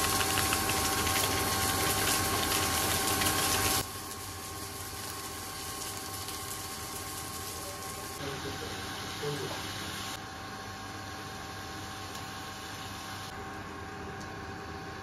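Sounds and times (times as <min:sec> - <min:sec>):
machine hum with steady tones: 0:00.0 - 0:15.0.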